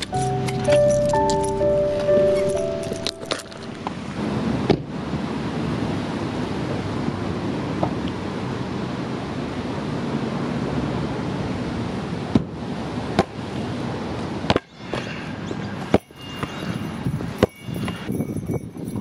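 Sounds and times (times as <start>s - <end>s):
steady wind: 2.4s - 19.0s.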